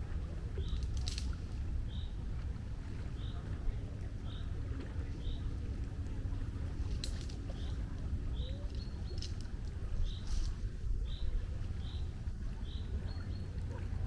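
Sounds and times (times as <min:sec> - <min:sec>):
wind and sea rumble: 0:00.0 - 0:14.0.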